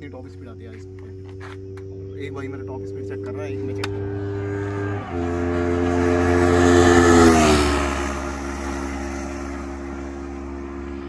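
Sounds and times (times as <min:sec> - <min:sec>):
motorcycle passing at high speed: 0:00.0 - 0:11.0.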